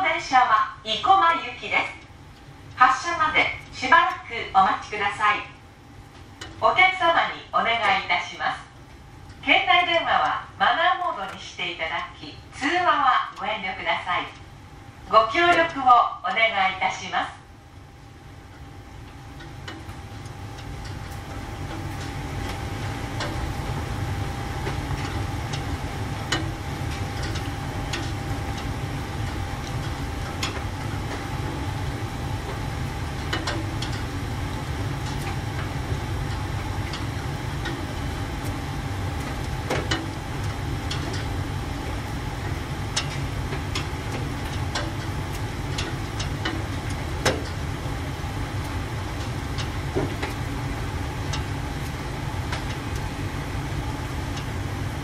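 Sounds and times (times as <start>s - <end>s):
electric train equipment humming: 0.0s - 55.0s
thin steady whine: 0.0s - 55.0s.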